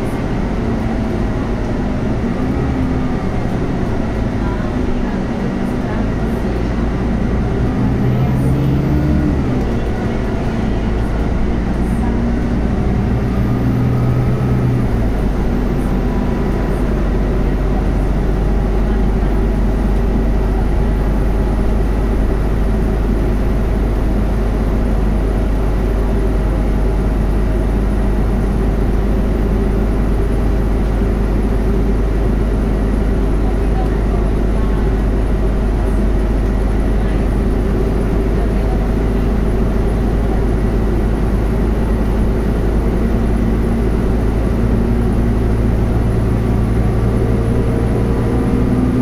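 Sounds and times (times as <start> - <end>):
bus engine drone: 0.0 - 49.0
engine and road rumble: 0.0 - 49.0.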